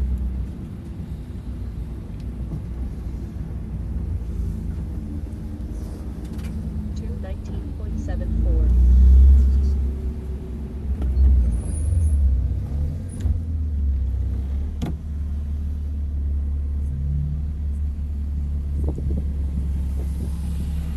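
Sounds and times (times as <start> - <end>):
car engine drone from cabin: 0.0 - 20.9.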